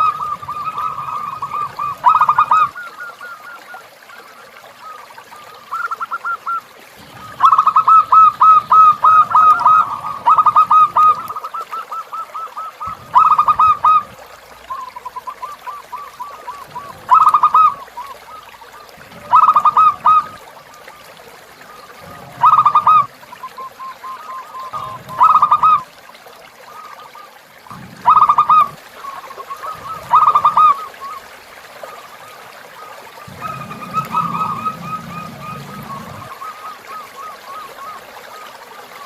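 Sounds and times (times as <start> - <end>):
dove cooing: 0.0 - 3.6, 4.8 - 25.9, 27.7 - 31.3, 32.1 - 38.4
river water trickling: 0.0 - 39.0.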